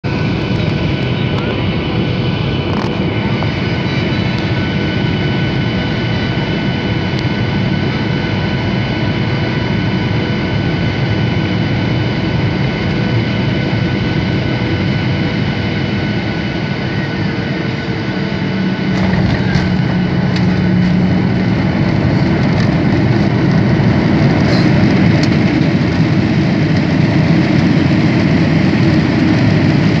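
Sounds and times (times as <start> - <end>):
jet engine whine: 0.0 - 30.0.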